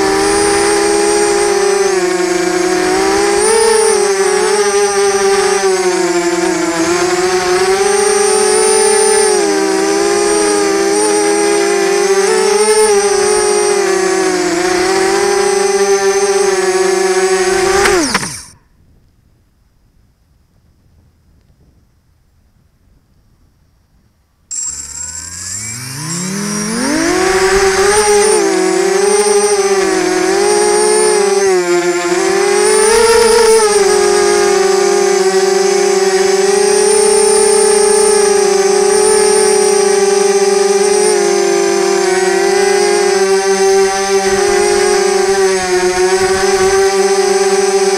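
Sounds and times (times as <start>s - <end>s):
drone propellers whining: 0.0s - 18.6s, 24.5s - 47.9s.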